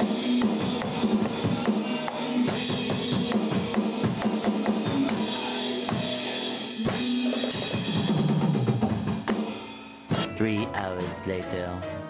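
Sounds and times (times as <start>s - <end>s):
electronic drum kit beat: 0.0s - 10.5s
recorded music: 0.0s - 12.0s.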